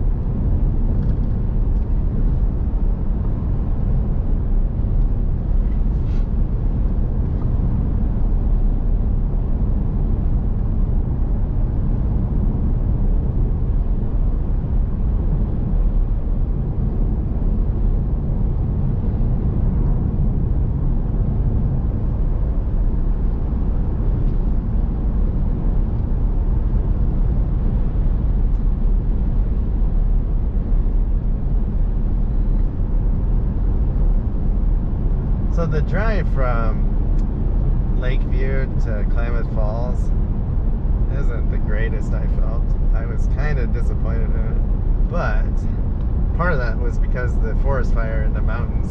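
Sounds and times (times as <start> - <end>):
vehicle engine and road noise: 0.0 - 48.9.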